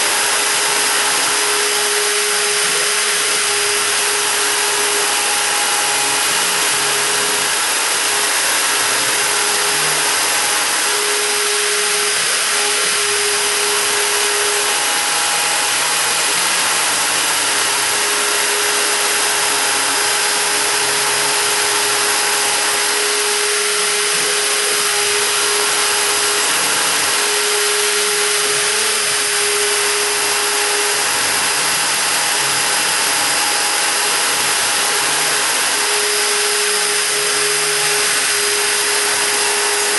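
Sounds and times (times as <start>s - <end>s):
humming tone: 0.0s - 39.9s
router spindle running: 0.0s - 39.9s.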